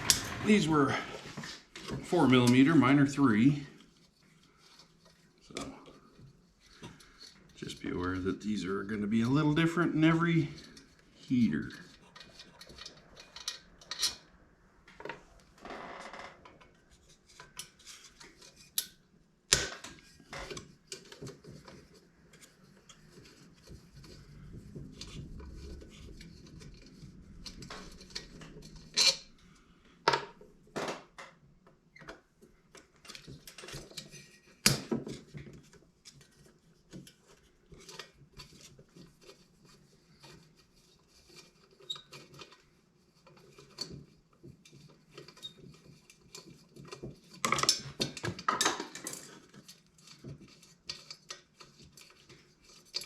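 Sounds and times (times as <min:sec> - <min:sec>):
scraping and rustling: 0:00.0 - 0:14.3, 0:19.9 - 0:29.8, 0:32.4 - 0:53.0.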